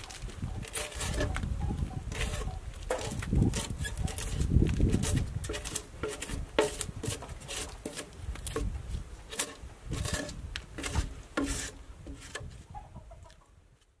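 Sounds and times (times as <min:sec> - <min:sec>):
drawknife scraping bark: 0:00.0 - 0:12.5.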